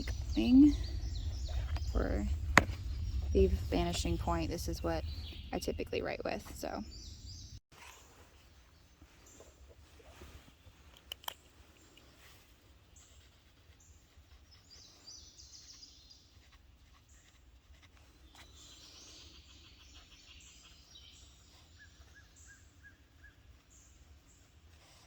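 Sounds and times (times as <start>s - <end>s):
faint birdsong: 0.0s - 25.0s.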